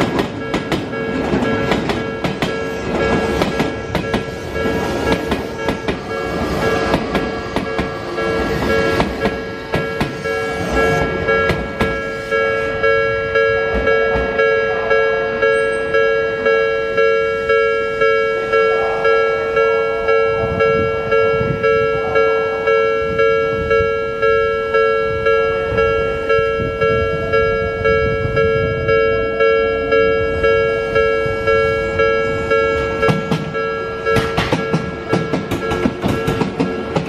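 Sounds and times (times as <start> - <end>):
train wheel rumble and clatter: 0.0 - 37.0
level crossing bell ringing: 0.1 - 37.0.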